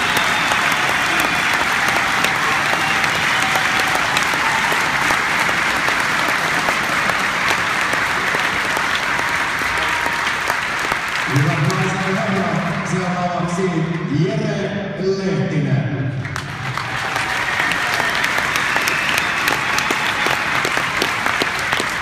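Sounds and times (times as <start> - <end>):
large crowd applauding: 0.0 - 13.7, 16.2 - 22.0.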